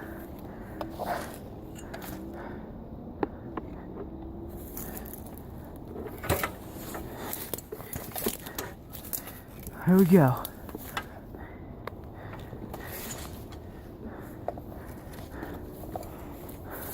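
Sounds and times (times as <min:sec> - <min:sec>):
low background noise: 0:00.0 - 0:16.9.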